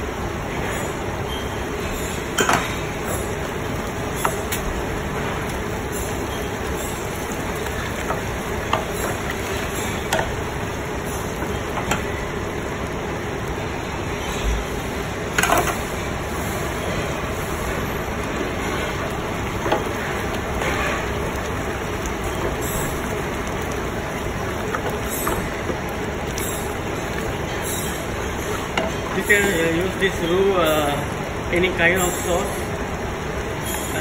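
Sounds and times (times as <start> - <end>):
butter sizzling in pot: 0.7 - 34.0.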